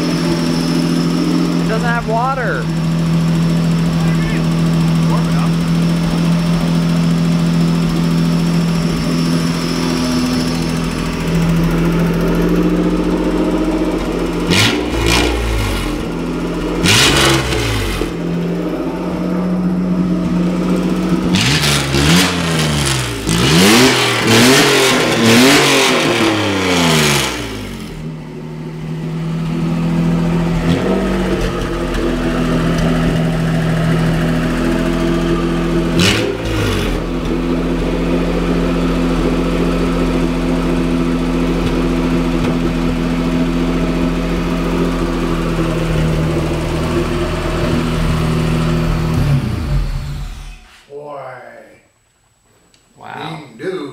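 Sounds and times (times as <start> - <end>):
car engine idling and revving: 0.0 - 50.8.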